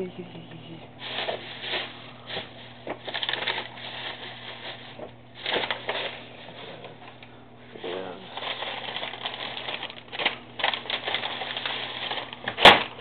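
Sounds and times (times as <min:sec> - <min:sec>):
steady low hum: 0:00.0 - 0:13.0
rustling handling noises: 0:01.0 - 0:13.0.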